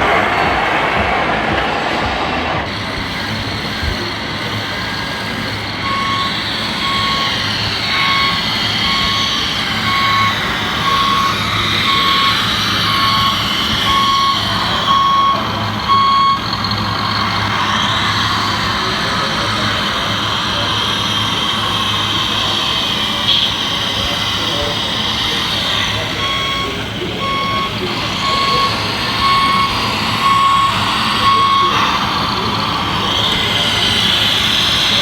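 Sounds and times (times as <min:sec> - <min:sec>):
model machinery motor noise: 0:00.0 - 0:35.0
reversing beeper: 0:00.0 - 0:35.0.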